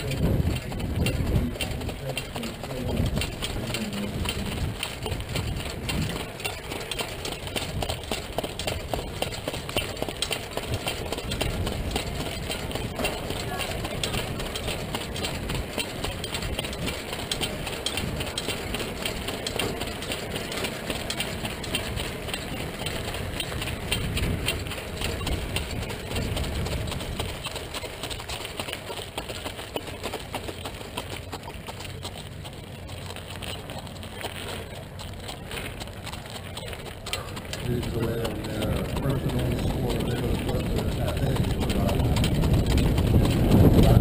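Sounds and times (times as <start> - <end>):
wheels on a dirt track: 0.0 - 44.0
wind rumble: 0.0 - 44.0.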